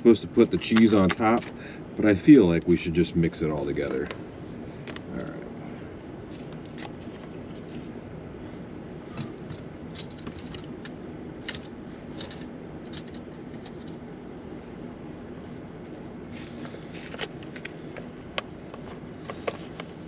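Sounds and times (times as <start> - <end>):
steady low background noise: 0.0 - 20.0.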